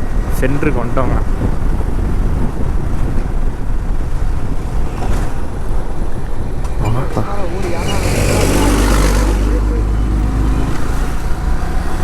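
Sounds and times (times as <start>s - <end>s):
motorcycle road and engine noise: 0.0s - 12.0s
wind rush on microphone: 0.0s - 12.0s.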